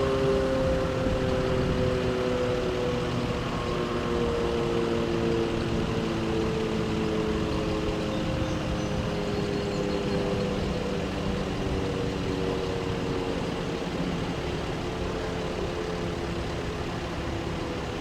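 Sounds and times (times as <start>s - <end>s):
siren wailing: 0.0s - 18.0s
street traffic rumbling: 0.0s - 18.0s.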